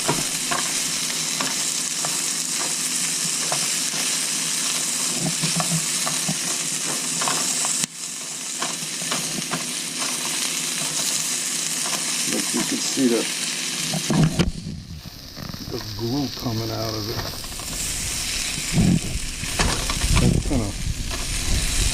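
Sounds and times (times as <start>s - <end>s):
cactus pads sizzling in a frying pan: 0.0s - 21.9s.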